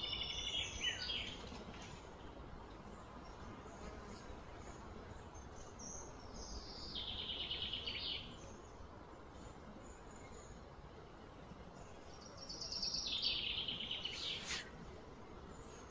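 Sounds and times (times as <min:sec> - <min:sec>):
outdoor background noise: 0:00.0 - 0:15.9.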